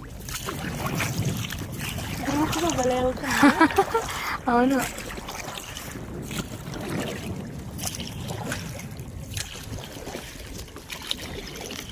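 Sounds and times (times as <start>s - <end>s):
faint splashes: 0.0s - 11.9s
water rushing around boat: 0.0s - 11.9s
wind noise on microphone: 0.0s - 11.9s.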